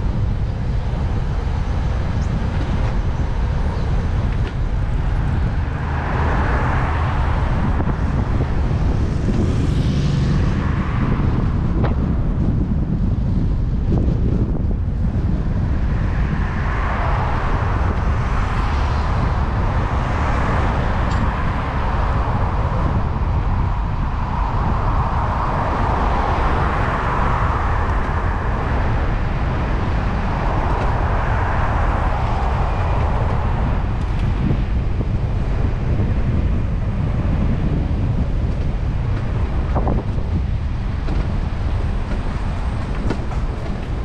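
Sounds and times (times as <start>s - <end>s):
road traffic passing: 0.0s - 44.0s
wind rumbling on microphone: 0.0s - 44.0s.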